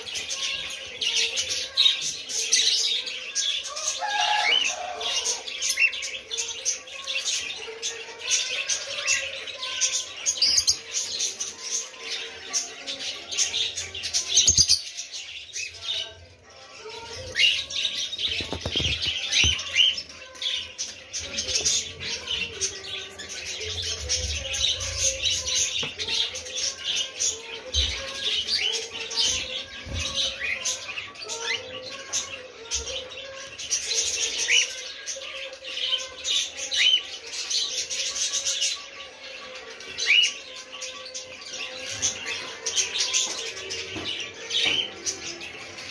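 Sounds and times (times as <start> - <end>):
caged birds chirping: 0.0 - 45.9.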